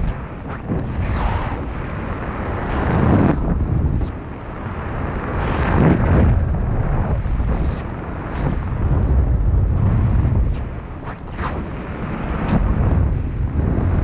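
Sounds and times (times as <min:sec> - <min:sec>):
wind buffeting camera microphone: 0:00.0 - 0:14.0.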